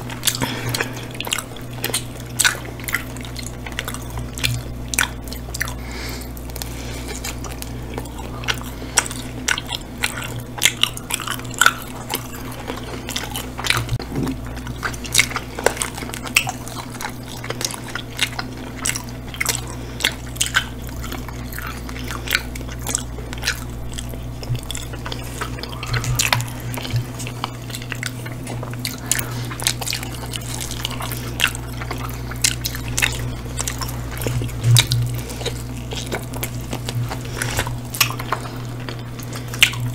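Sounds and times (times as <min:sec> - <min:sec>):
people chewing and biting: 0:00.0 - 0:39.9
steady low hum: 0:00.0 - 0:39.9.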